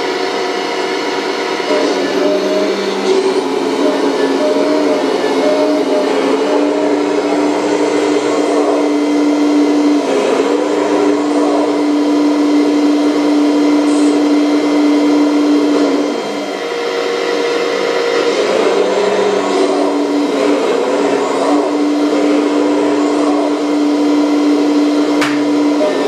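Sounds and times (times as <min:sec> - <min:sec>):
hydraulic pump whine: 0:00.0 - 0:26.0.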